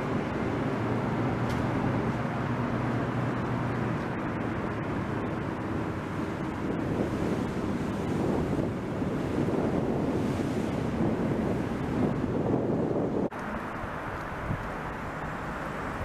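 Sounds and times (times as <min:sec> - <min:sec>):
wind noise on microphone: 0:00.0 - 0:15.1
boat wake rushing: 0:00.0 - 0:16.0
outboard motors droning: 0:00.0 - 0:16.0.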